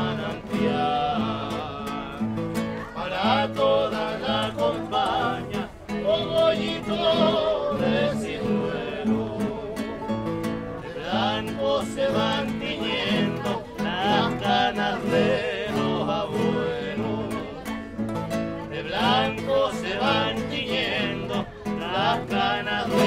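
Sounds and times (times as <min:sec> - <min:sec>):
voices singing long notes: 0:00.0 - 0:02.4, 0:03.0 - 0:17.7, 0:18.6 - 0:23.0
acoustic guitars strummed: 0:00.0 - 0:23.0.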